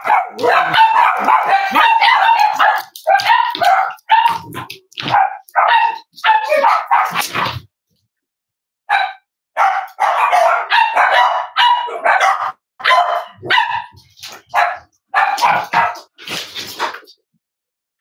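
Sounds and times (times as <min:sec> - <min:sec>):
dog barking: 0:00.0 - 0:07.4, 0:08.9 - 0:16.2.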